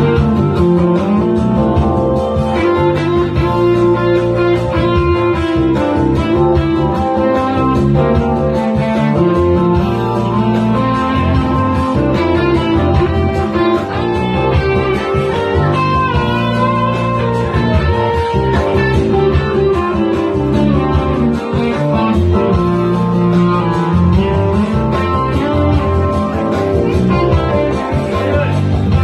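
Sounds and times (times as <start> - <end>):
electric guitar through amplifier: 0.0 - 29.0.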